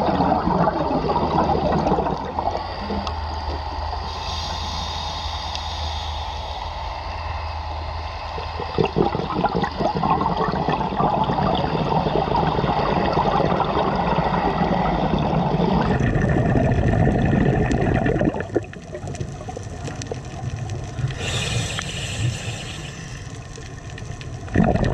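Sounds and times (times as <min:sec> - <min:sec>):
water bubbling and gurgling: 0:00.0 - 0:05.1, 0:08.1 - 0:24.9.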